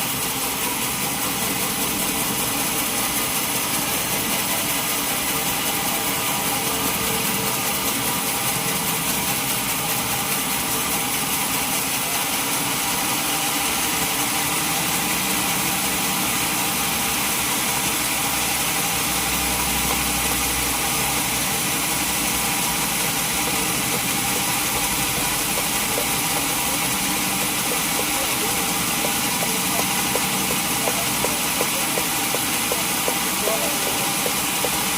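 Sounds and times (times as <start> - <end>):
sawmill machinery engine drone: 0.0 - 34.9.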